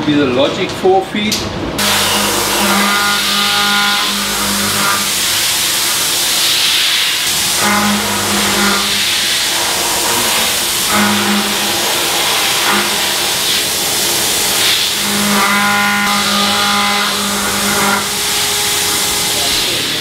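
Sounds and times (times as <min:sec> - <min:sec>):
cnc milling cutter humming: 0:01.8 - 0:20.0.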